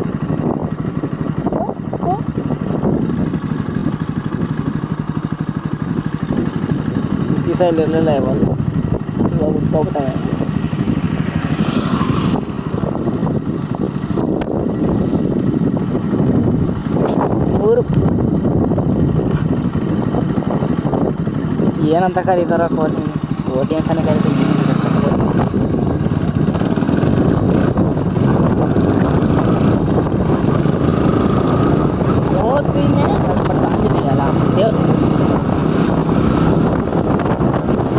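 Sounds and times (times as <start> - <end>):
motorcycle engine running: 0.0 - 37.9
vehicle driving on road: 0.0 - 37.9
wind buffeting microphone: 0.0 - 37.9.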